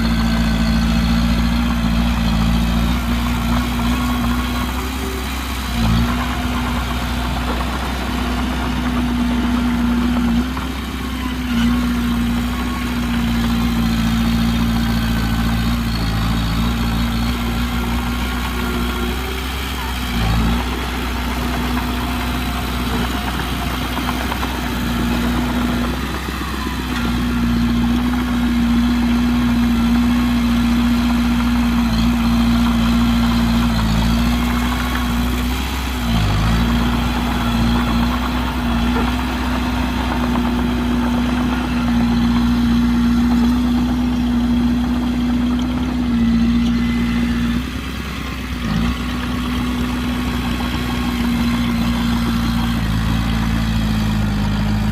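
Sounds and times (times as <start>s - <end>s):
heavy machine diesel engine running: 0.0s - 54.9s.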